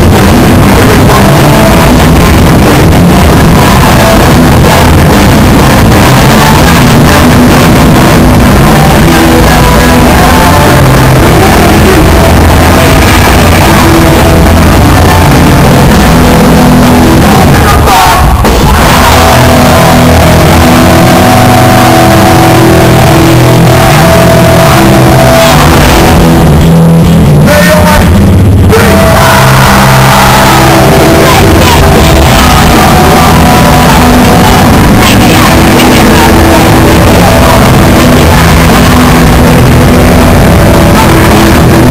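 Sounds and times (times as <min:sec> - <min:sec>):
shouted vocals: 0:00.0 - 0:26.7, 0:27.3 - 0:41.9
loud distorted punk band: 0:00.0 - 0:41.9.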